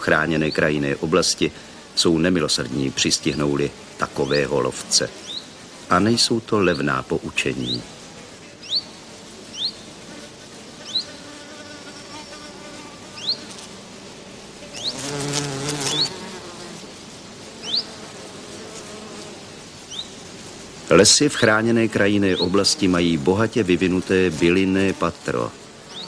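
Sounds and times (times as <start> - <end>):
flying insect buzzing: 0.5 - 26.0.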